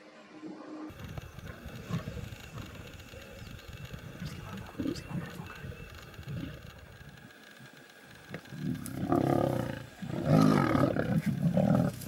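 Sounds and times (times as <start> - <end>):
lionesses growling: 0.9 - 12.0.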